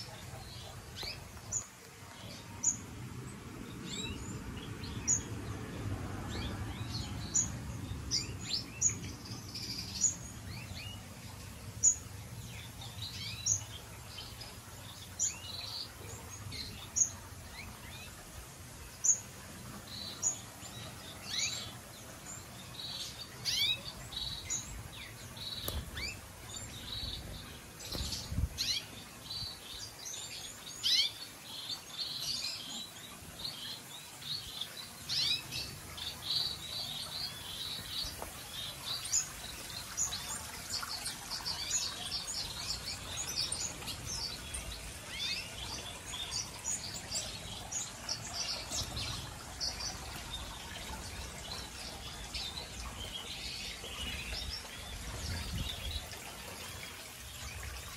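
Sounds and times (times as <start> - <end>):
finches and canaries chirping: 0.0 - 56.6.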